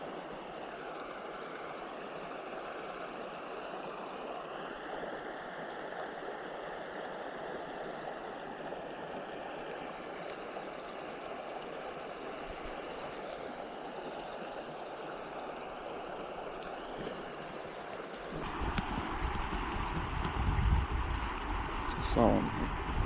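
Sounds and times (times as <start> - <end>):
brook running water: 0.0 - 23.0.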